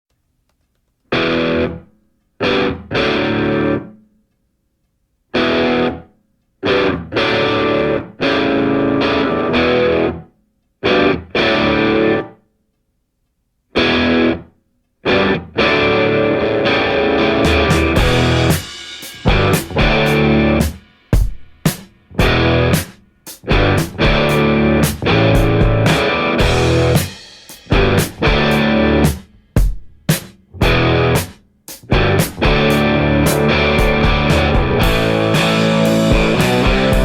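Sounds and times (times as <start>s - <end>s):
distorted electric guitar chords: 1.1s - 1.8s, 2.4s - 4.0s, 5.4s - 12.4s, 13.8s - 20.8s, 22.1s - 29.3s, 30.5s - 37.0s.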